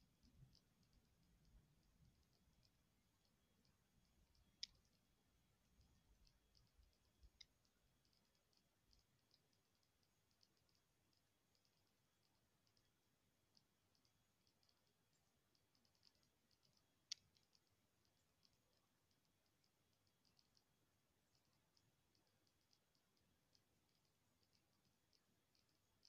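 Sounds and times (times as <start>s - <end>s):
faint clicks: 0.0s - 26.0s.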